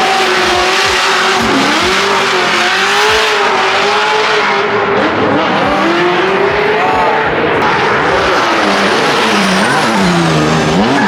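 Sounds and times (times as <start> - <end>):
engine at high revs: 0.0 - 11.0
tyres skidding: 0.0 - 11.0.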